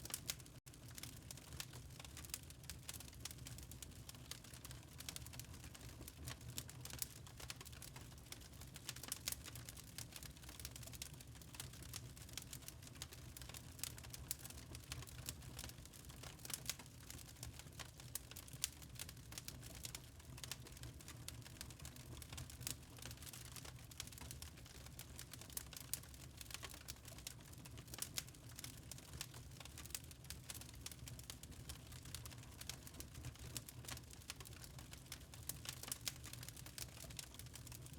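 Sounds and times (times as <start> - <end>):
low rumble of flames: 0.0 - 37.9
wood fire crackling: 0.0 - 37.9.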